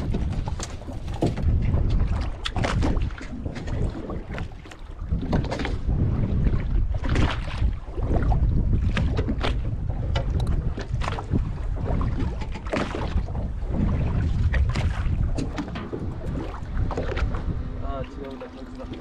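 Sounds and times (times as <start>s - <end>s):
water slapping against hull: 0.0s - 19.0s
wind rumbling on microphone: 0.0s - 19.0s.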